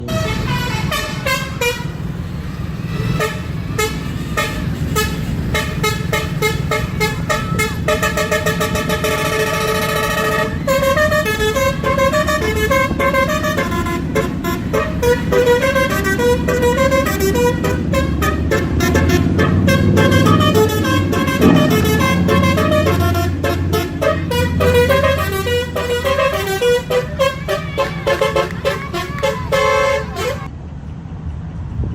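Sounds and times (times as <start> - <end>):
bus horn playing short notes: 0.0 - 30.5
low engine rumble: 0.0 - 31.9.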